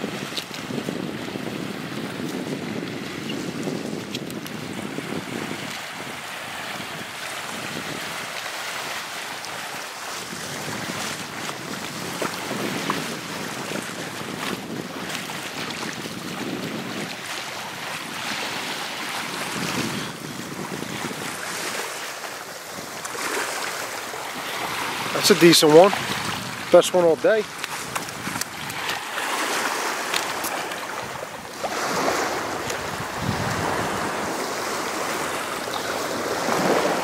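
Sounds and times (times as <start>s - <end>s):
small waves lapping: 0.0s - 37.0s
wind gusting across microphone: 0.0s - 37.0s.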